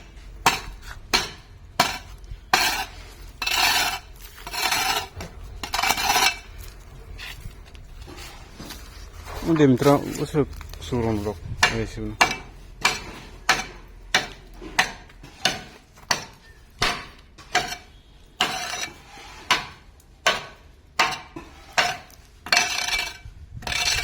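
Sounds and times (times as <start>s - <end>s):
metal hand tool striking masonry: 0.0s - 6.8s, 11.4s - 24.0s
tool scraping masonry: 0.0s - 24.0s.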